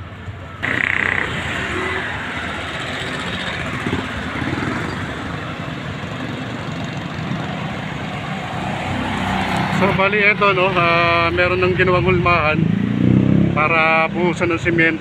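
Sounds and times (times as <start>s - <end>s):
motor vehicles passing: 0.0s - 15.0s.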